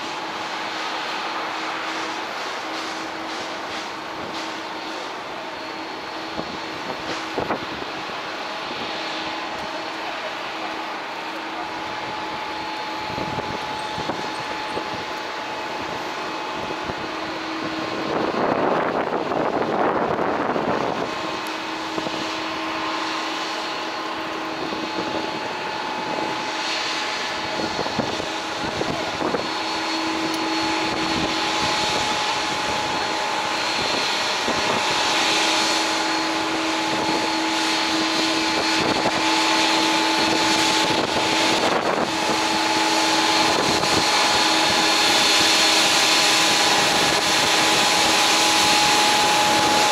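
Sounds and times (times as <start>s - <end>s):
jet engines rushing and whining: 0.0s - 49.9s.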